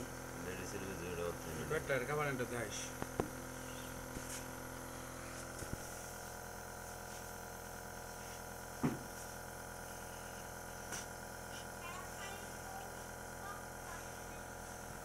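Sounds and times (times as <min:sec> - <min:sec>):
oxygen machine humming: 0:00.0 - 0:15.0.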